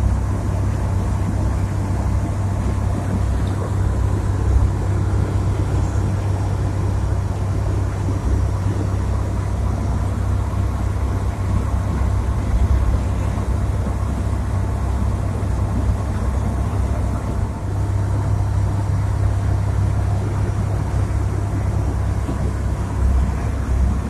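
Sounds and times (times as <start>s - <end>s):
car engine drone from cabin: 0.0s - 24.0s
road and wind noise: 0.0s - 24.0s.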